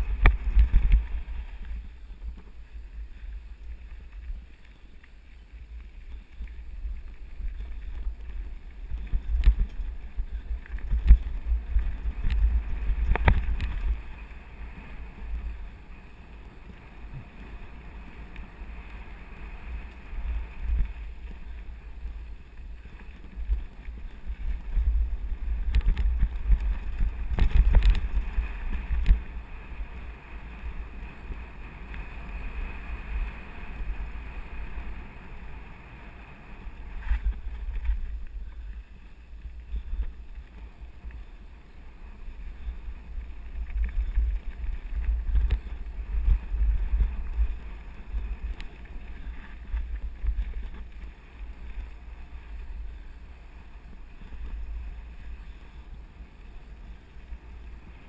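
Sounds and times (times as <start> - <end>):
wind buffeting microphone: 0.0 - 4.5, 5.6 - 58.0.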